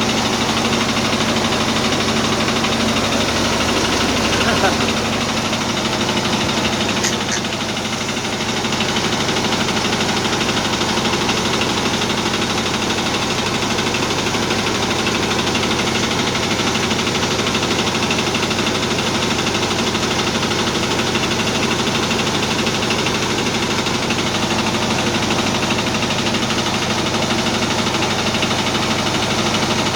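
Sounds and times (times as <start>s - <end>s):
rice milling machine droning: 0.0s - 29.9s.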